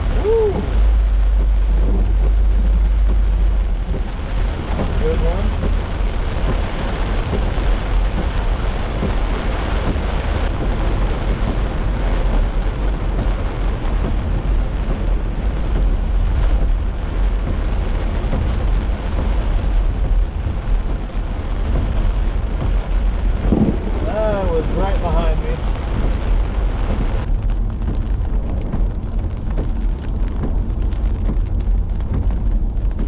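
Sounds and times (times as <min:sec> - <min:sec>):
constant low rumble: 0:00.0 - 0:33.0
heavy rain on a car: 0:00.0 - 0:33.0.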